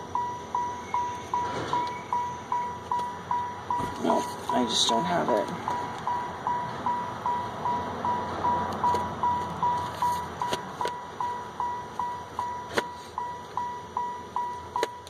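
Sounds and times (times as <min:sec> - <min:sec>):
vehicle warning chime dinging: 0:00.0 - 0:15.0.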